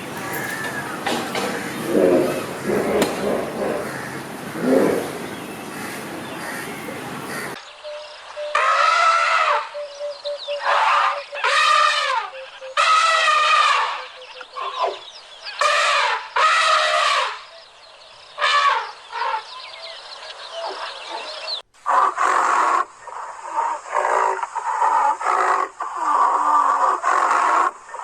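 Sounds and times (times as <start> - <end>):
loud animal calls: 0.0 - 7.6, 8.5 - 9.9, 10.6 - 17.5, 18.4 - 19.6, 20.6 - 28.0.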